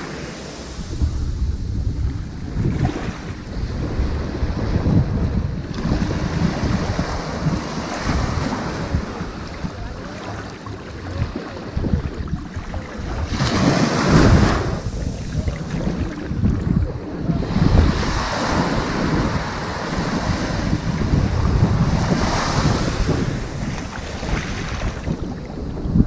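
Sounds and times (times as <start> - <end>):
ocean waves on sandy beach: 0.0 - 26.0.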